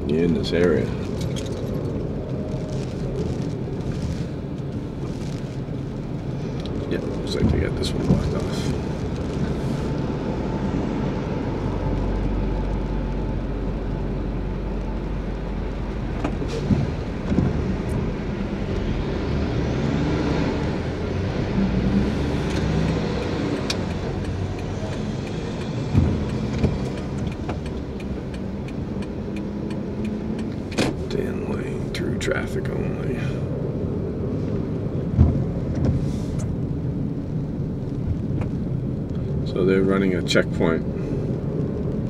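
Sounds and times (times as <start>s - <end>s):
engine and road rumble: 0.0s - 42.0s.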